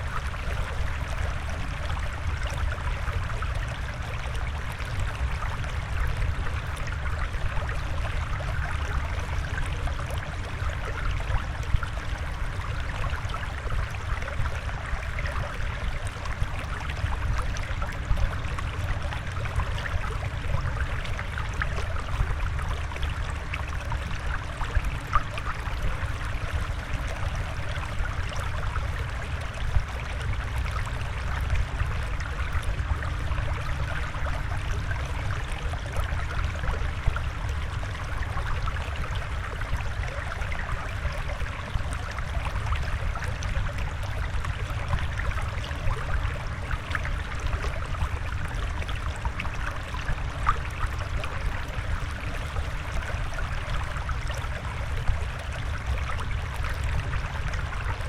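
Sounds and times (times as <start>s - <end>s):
water flowing and trickling: 0.0s - 58.0s.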